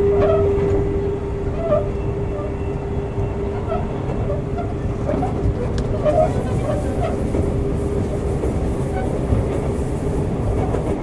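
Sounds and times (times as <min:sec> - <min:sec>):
train motor hum: 0:00.0 - 0:11.0
train wheels rumbling on rail: 0:00.0 - 0:11.0.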